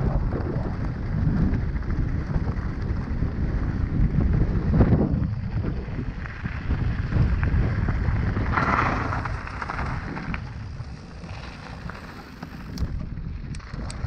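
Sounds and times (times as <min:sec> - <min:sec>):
bike tyres and frame rattling: 0:00.0 - 0:14.0
wind buffeting microphone: 0:00.0 - 0:14.0.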